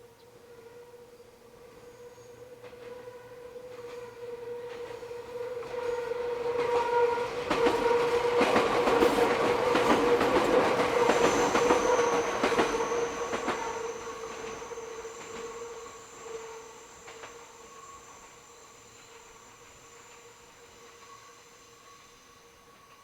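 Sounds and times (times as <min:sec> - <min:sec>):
train wheels squealing: 0:00.0 - 0:23.0.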